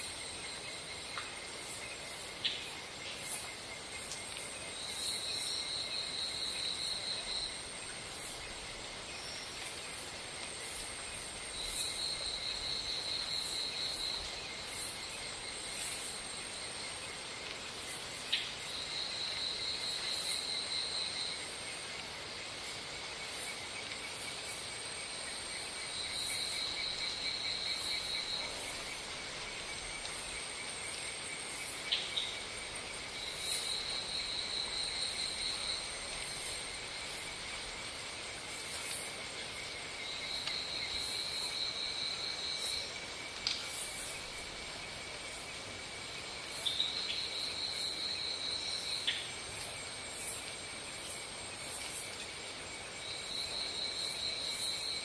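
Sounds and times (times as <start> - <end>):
insect trill: 0.0 - 55.0
insects buzzing: 0.0 - 55.0.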